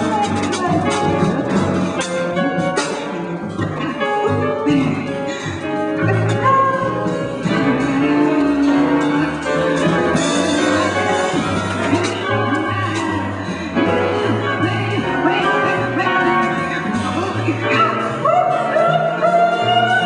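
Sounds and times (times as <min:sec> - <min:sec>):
live jazz band playing: 0:00.0 - 0:20.0
low bass notes: 0:00.0 - 0:20.0.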